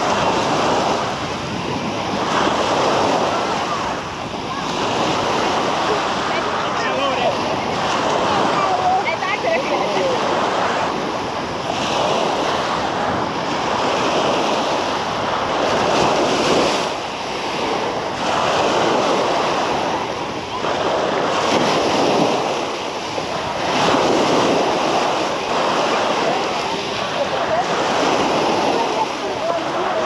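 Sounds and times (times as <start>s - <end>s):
sea waves washing onto beach: 0.0s - 30.0s
wind buffeting microphone: 0.0s - 30.0s.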